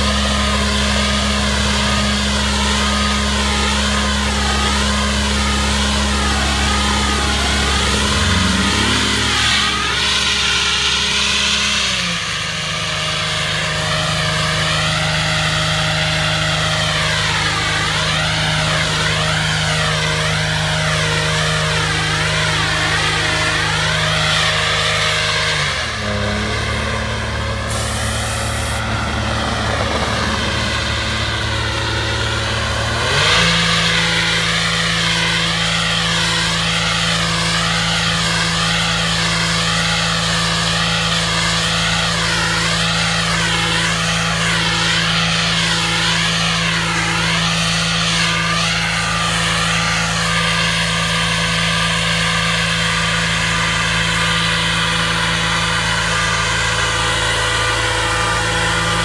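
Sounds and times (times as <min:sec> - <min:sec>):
engine and blower running: 0:00.0 - 0:59.0
high wavering whine: 0:00.0 - 0:59.0.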